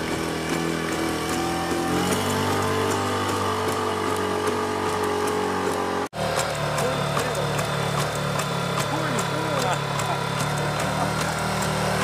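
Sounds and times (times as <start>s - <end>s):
robot engine droning: 0.0s - 12.0s.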